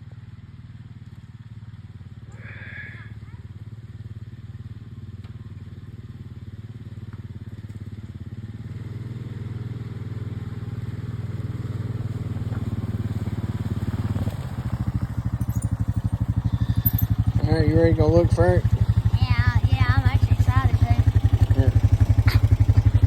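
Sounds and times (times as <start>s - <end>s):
atv engine approaching: 0.0s - 23.0s.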